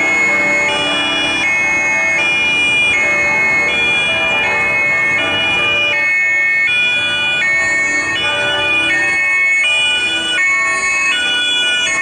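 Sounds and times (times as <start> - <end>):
two-tone police siren: 0.0 - 12.0.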